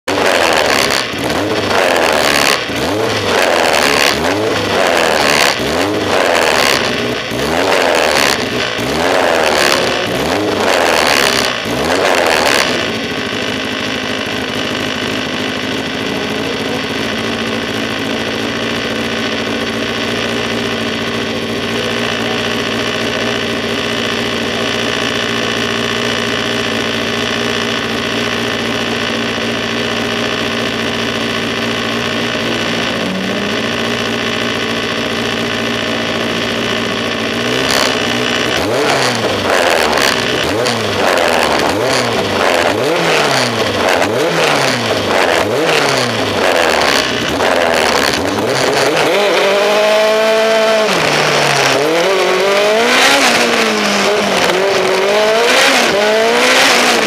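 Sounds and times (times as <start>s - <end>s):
engine idling: 0.0s - 57.0s
race car engine revving: 0.0s - 57.0s.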